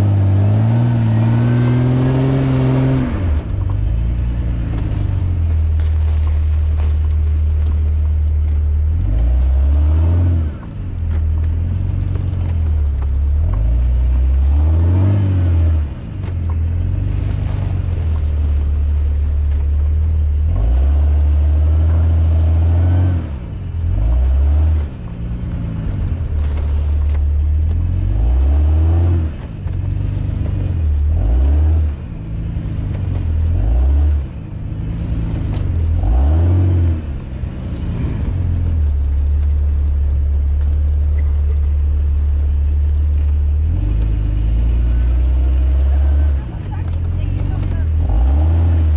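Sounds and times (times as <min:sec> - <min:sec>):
heavy low rumble: 0:00.0 - 0:48.9
off-road vehicle engine revving: 0:00.0 - 0:48.9.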